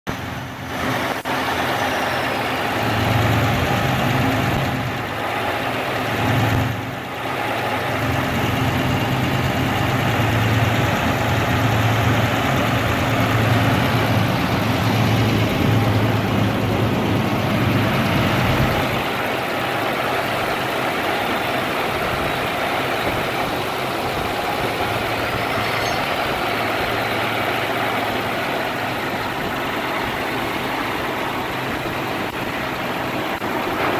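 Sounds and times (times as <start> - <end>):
single-cylinder gas engine running: 0.1 - 33.9.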